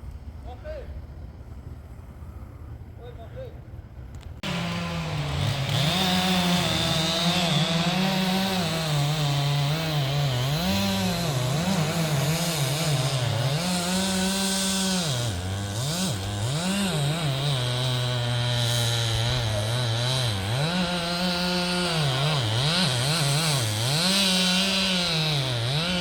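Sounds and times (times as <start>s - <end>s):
chainsaw cutting wood: 4.4s - 26.0s.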